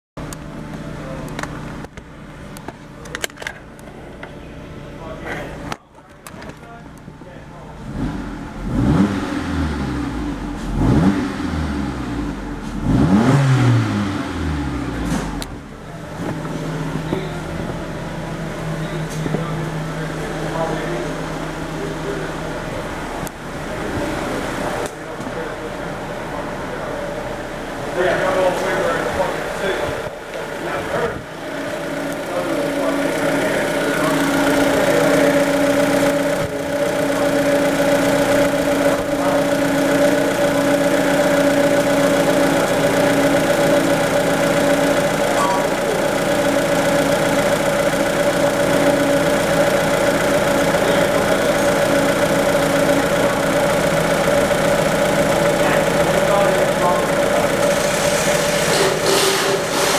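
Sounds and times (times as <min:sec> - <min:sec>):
car engine revving: 0:07.7 - 0:59.9.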